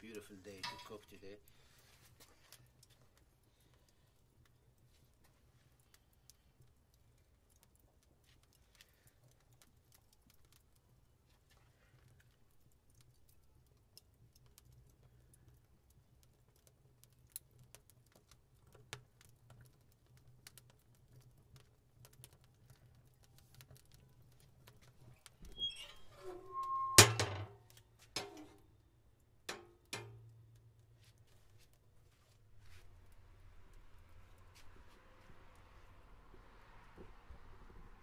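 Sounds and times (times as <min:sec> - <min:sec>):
log crackling in fire: 0:00.0 - 0:38.0.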